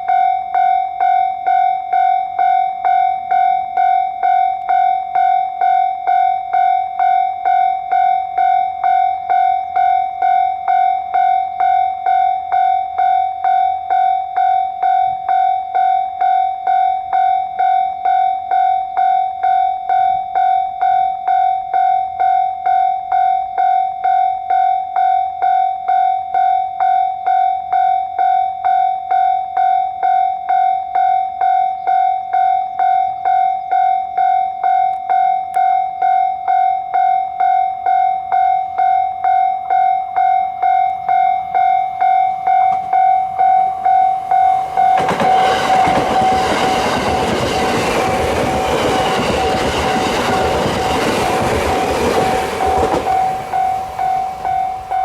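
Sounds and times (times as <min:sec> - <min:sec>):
level crossing warning bell: 0:00.0 - 0:55.0.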